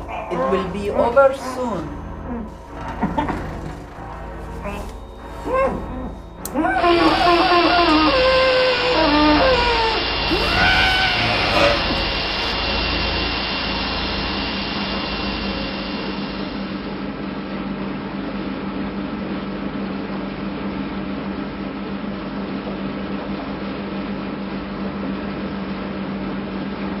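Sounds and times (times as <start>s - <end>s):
mechanical drone with low hum: 0.0s - 27.0s.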